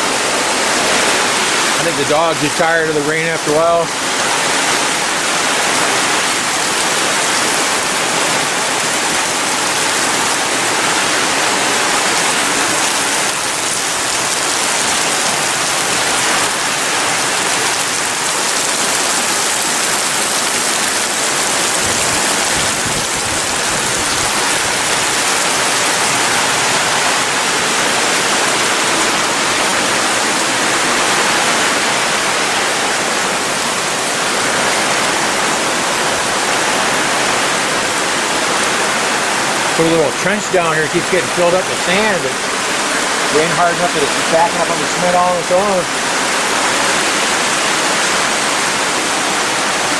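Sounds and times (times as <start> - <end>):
heavy rain hiss: 0.0 - 49.9.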